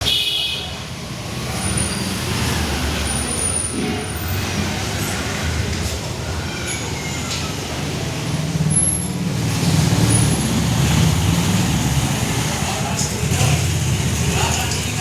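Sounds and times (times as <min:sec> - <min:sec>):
low rumble of passing vehicles: 0:00.6 - 0:15.0.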